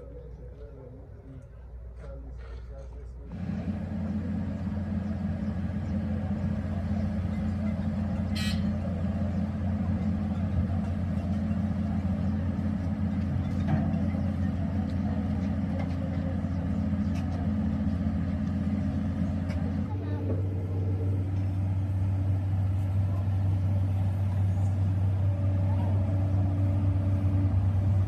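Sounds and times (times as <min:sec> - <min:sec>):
excavator diesel engine under load: 0:03.3 - 0:28.0.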